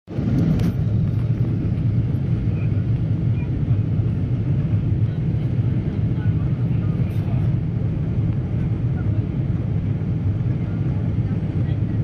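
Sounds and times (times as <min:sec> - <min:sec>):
airliner cabin engine rumble: 0:00.1 - 0:12.0.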